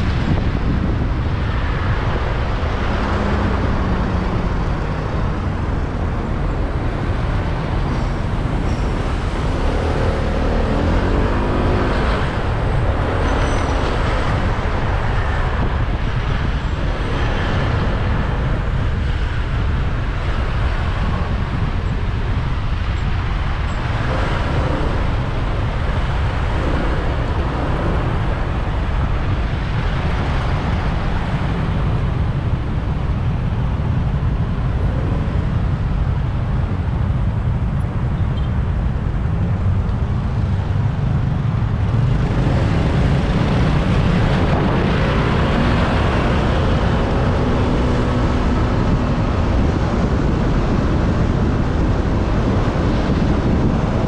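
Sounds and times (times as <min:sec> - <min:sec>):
deep rumble: 0:00.0 - 0:54.0
road traffic: 0:00.0 - 0:54.0.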